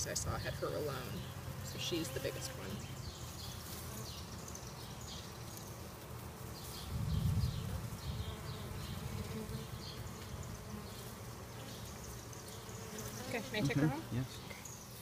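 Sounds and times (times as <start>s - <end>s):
bees buzzing: 0.1s - 15.0s.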